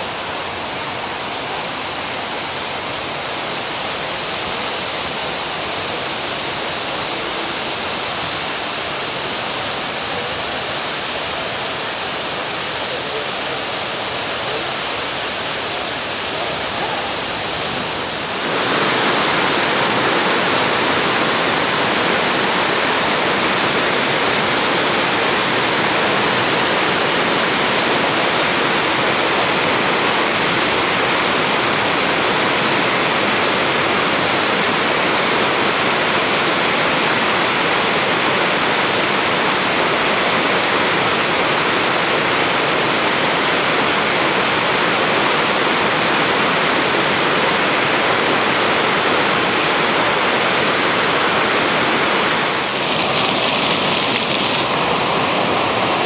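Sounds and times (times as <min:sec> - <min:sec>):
water falling and splashing: 0:00.0 - 0:56.0.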